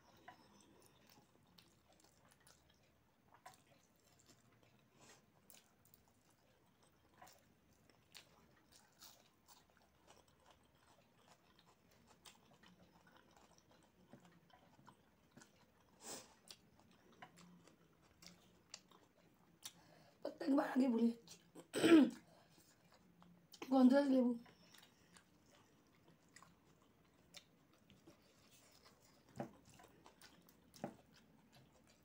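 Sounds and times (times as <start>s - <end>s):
chewing and mouth smacks: 0.1s - 20.2s, 21.2s - 23.7s, 24.4s - 32.0s.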